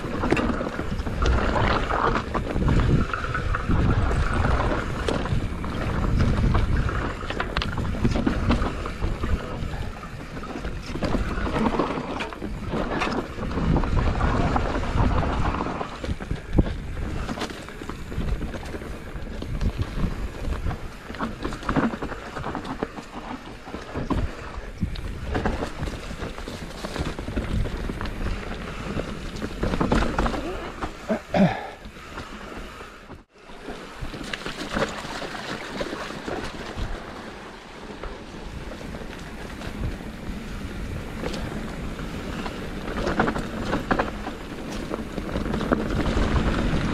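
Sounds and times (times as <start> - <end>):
bike rattling on rough trail: 0.0 - 46.9
wind rushing over microphone: 0.0 - 46.9.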